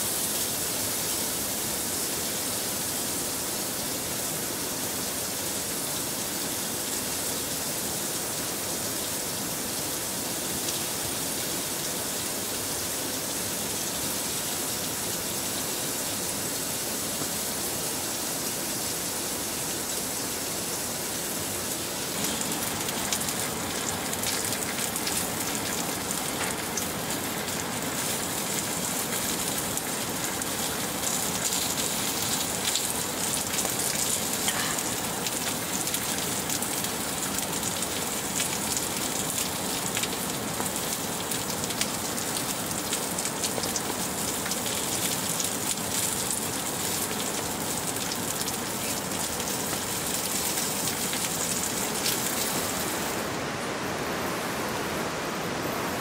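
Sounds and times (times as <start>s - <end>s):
rain on tent fabric: 0.0s - 56.0s.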